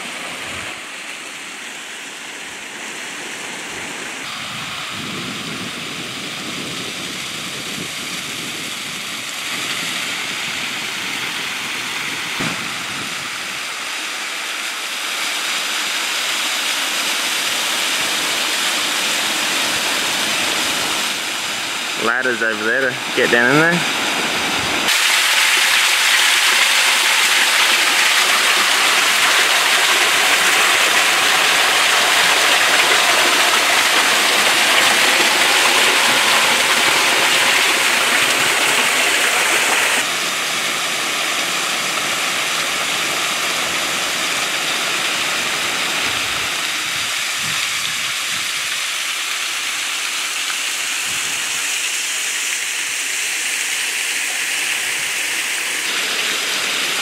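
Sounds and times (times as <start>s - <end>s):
waterfall splashing into pool: 0.0s - 57.0s.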